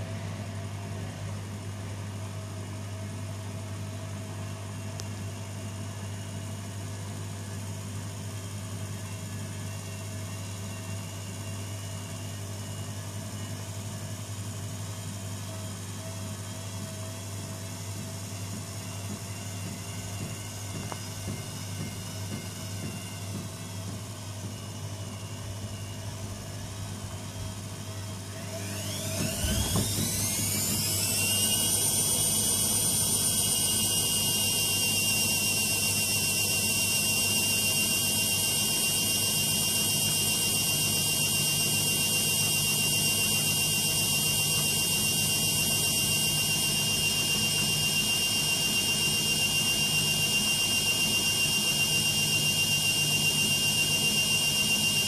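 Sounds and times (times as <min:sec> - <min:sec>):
washing machine spin whine: 0:00.0 - 0:55.0.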